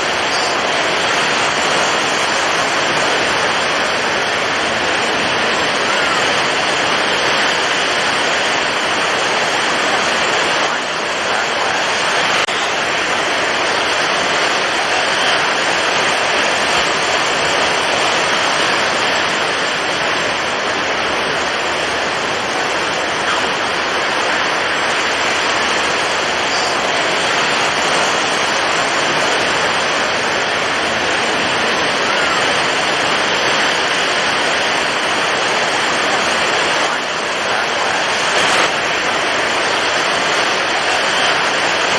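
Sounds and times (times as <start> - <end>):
heavy surf: 0.0 - 41.9
strong wind: 0.0 - 41.9.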